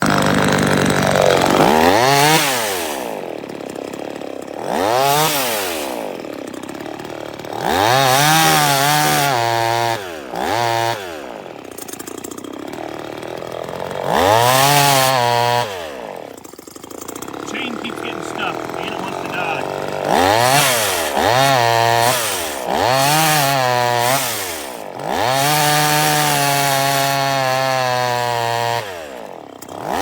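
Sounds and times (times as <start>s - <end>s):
chainsaw engine idling: 0.0s - 30.0s
chainsaw engine revving: 0.0s - 30.0s.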